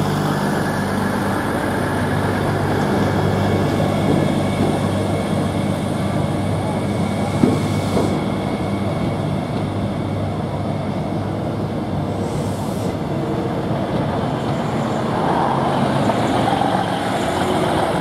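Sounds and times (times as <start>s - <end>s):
machinery hum: 0.0s - 18.0s
train wheels rumbling on rail: 0.0s - 18.0s.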